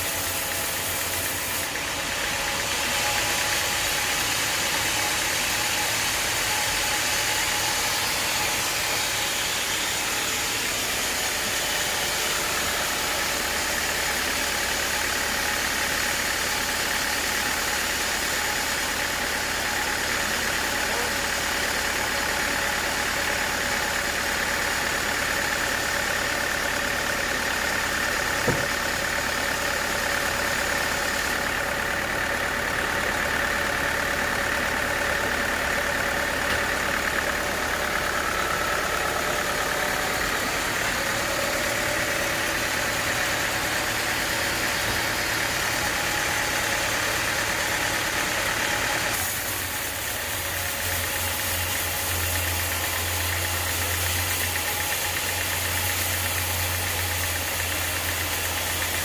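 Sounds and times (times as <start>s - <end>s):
sawmill engine and saw cutting wood: 0.0s - 59.0s.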